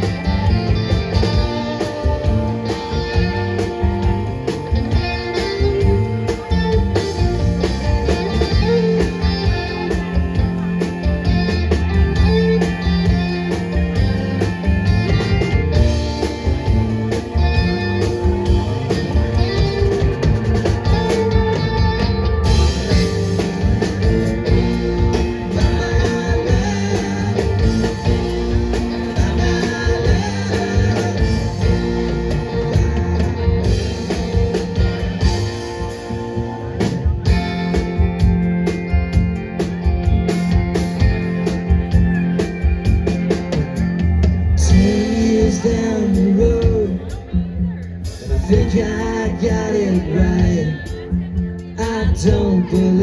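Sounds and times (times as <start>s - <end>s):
drum kit beat: 0.0s - 53.0s
electric guitar: 0.0s - 53.0s.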